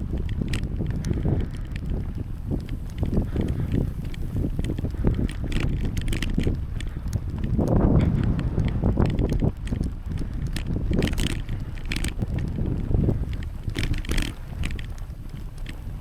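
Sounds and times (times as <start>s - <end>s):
bicycle clicks and rattles: 0.0s - 16.0s
wind buffeting microphone: 0.0s - 16.0s.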